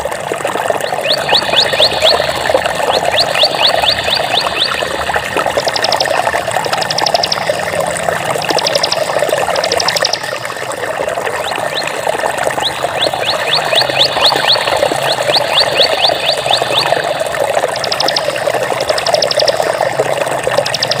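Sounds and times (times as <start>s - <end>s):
water trickling in a stream: 0.0s - 21.0s
rapid high-pitched chirping: 0.8s - 7.8s, 8.5s - 10.6s, 11.4s - 20.0s, 20.6s - 21.0s.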